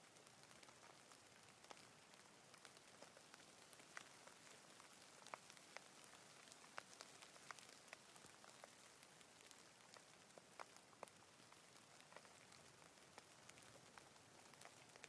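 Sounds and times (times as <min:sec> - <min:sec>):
light rain hiss: 0:00.0 - 0:15.0
raindrops ticking: 0:00.0 - 0:15.0.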